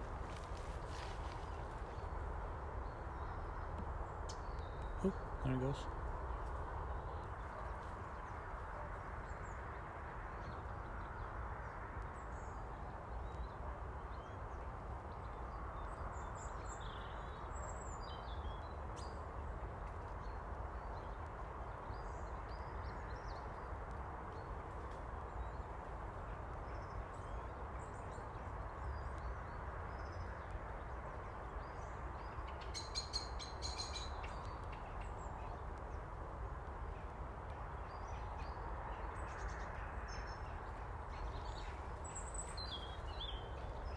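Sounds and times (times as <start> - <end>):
low woodland rush: 0.0 - 43.9.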